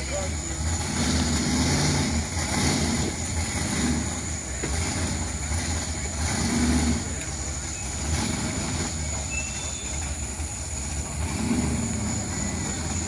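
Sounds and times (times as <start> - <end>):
crowd chatter: 0.0 - 13.0
truck engine idling: 0.0 - 13.0.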